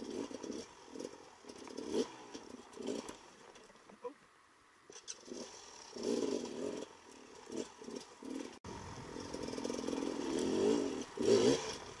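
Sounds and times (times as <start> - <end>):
dirt bike engine revving: 0.0 - 3.4, 4.9 - 12.0.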